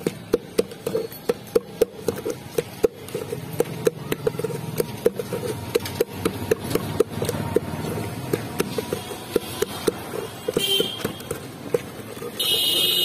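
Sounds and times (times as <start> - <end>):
wooden pestle knocking metal pail: 0.0 - 13.0.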